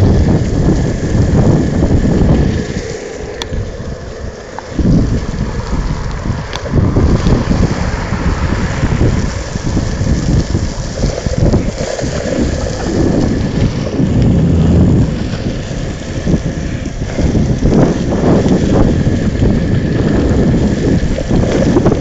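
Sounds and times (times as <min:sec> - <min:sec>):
wheels rolling on wet pavement: 0:00.0 - 0:22.0
wind buffeting microphone: 0:00.0 - 0:22.0.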